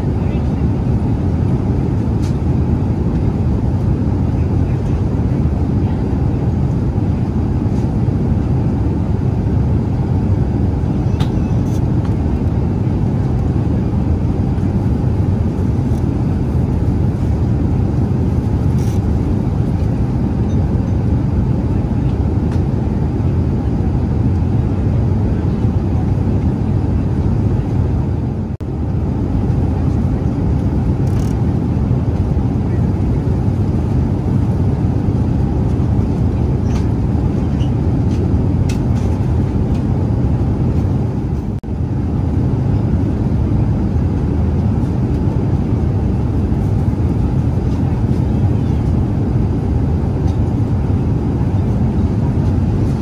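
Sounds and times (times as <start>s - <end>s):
aircraft cabin engine rush: 0.0s - 53.0s.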